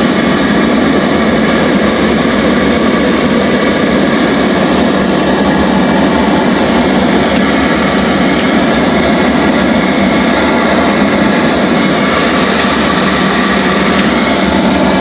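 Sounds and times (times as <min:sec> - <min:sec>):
air rushing past plane: 0:00.0 - 0:15.0
propeller plane engine drone: 0:00.0 - 0:15.0.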